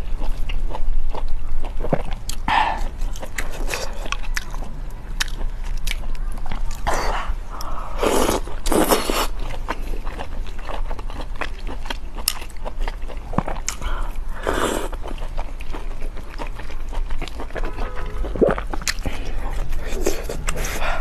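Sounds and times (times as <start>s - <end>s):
steady low hum: 0.0s - 21.0s
wet chewing clicks: 0.2s - 21.0s.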